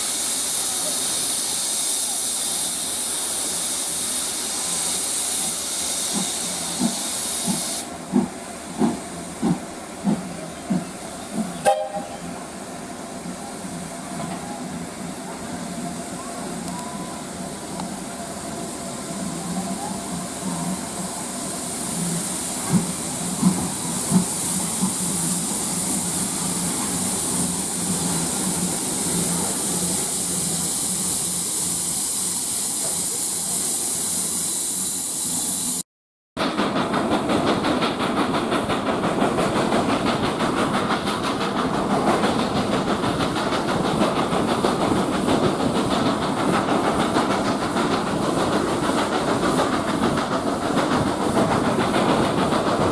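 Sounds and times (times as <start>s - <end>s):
train clattering rhythmically: 0.0s - 16.0s, 21.9s - 34.0s, 36.4s - 52.9s
steam hissing from locomotive: 0.0s - 35.8s, 36.4s - 52.9s.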